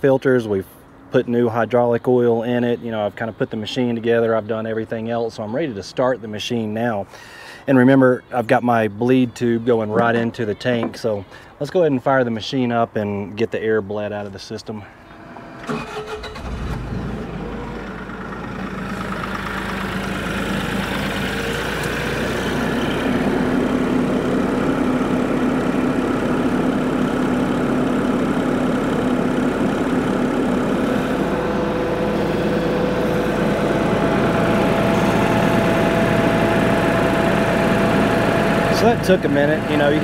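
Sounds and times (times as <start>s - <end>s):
diesel engine idling: 0.0s - 11.6s, 14.9s - 40.0s.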